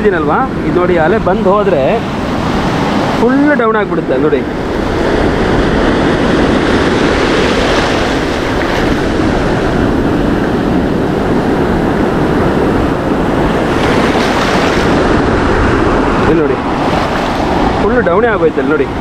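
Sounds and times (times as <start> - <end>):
sea surf rushing over sand: 0.0 - 19.0.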